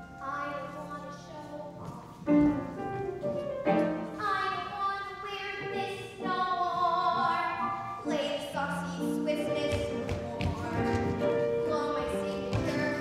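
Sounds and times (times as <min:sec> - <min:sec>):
piano accompaniment: 0:00.0 - 0:13.0
girl singing: 0:00.2 - 0:02.3, 0:04.1 - 0:13.0.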